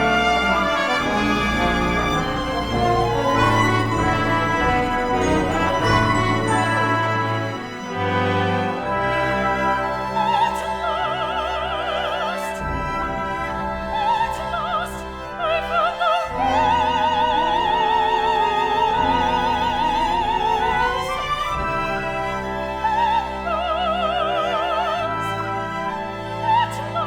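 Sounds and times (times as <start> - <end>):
small instrumental ensemble: 0.0 - 27.0
soprano singing vocalise: 0.0 - 27.0.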